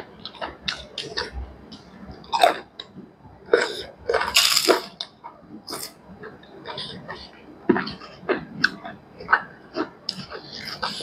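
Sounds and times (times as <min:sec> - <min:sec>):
chewing and crunching fried food: 0:00.0 - 0:11.0.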